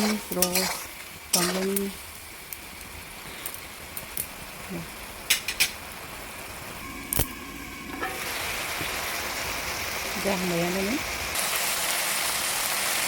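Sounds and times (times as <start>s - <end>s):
chicken sizzling in a pan: 0.0s - 7.3s, 7.9s - 13.0s.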